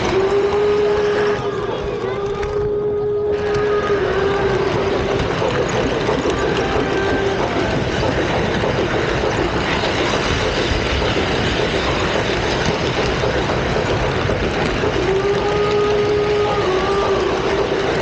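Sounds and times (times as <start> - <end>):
model train wheels rattling on rails: 0.0 - 18.0.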